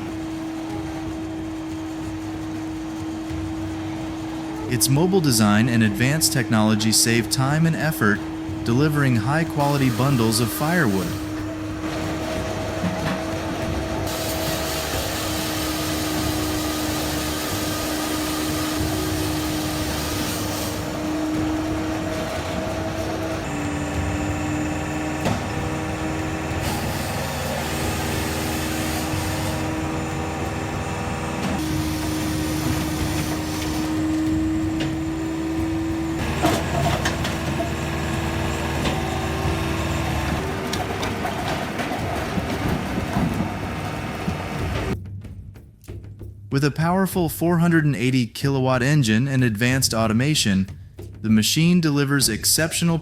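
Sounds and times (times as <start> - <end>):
heavy machinery engine running: 0.0 - 45.0.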